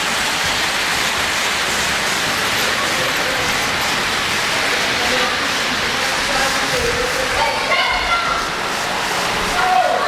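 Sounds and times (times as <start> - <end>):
model train wheels rumbling: 0.0 - 10.0.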